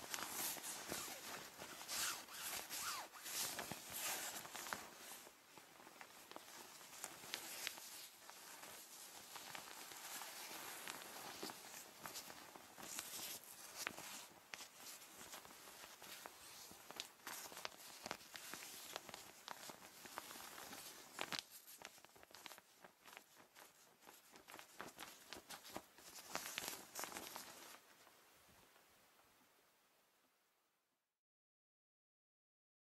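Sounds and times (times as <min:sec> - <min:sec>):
rainwear rustling and crinkling: 0:00.0 - 0:28.2.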